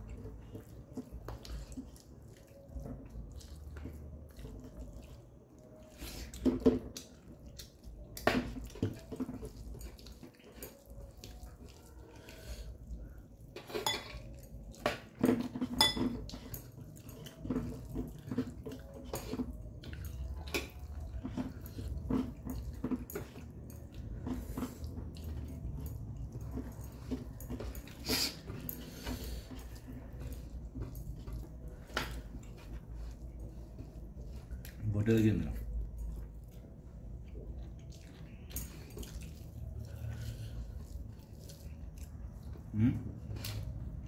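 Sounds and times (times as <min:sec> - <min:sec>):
chewing: 0:00.0 - 0:44.0.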